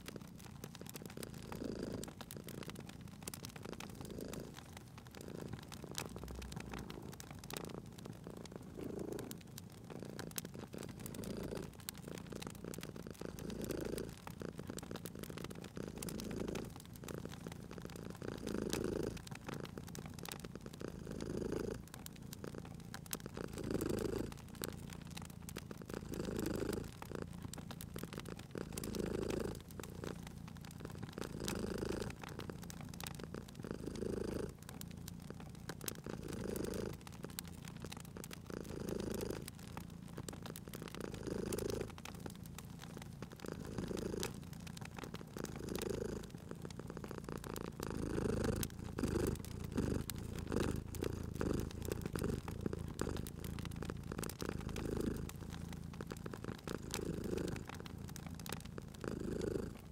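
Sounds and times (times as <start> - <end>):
cat purring: 0.0 - 59.9
wood fire crackling and popping: 0.0 - 59.9.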